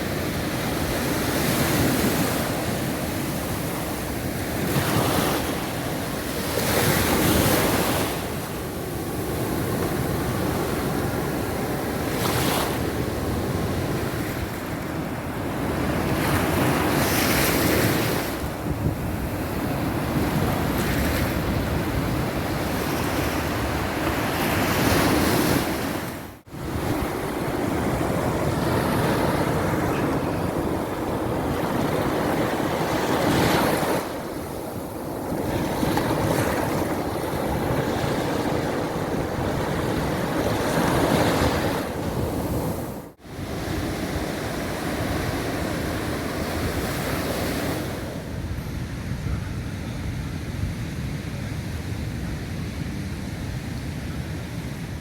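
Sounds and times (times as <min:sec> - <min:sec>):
sea waves breaking on beach: 0:00.0 - 0:48.4
wind buffeting microphone: 0:00.0 - 0:55.0.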